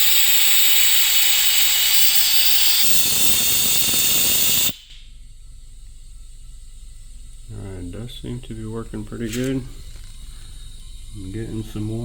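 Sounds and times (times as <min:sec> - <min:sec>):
compressed air hissing: 0:00.0 - 0:05.0, 0:05.8 - 0:12.0.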